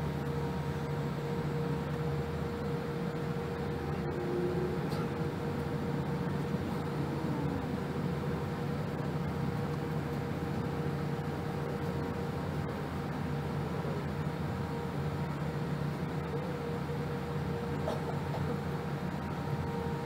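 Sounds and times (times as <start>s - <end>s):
jet engines humming in cabin: 0.0s - 20.0s.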